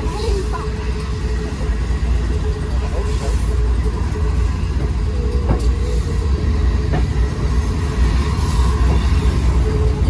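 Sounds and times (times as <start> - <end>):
railway vehicle rumbling on track: 0.0 - 10.0.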